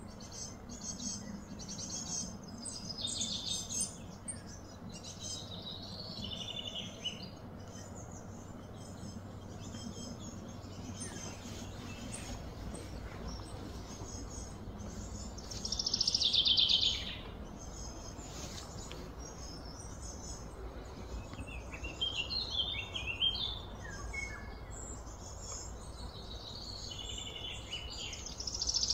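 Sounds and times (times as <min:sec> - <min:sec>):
birds chirping and singing: 0:00.0 - 0:28.9
low background rumble: 0:00.0 - 0:28.9.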